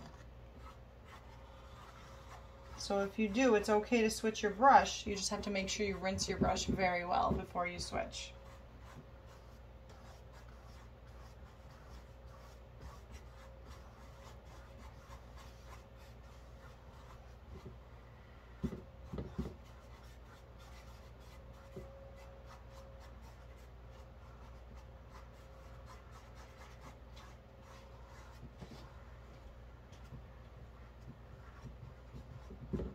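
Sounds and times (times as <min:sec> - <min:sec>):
low steady hum: 0:00.0 - 0:32.9
paintbrush brushing on canvas: 0:00.0 - 0:32.9.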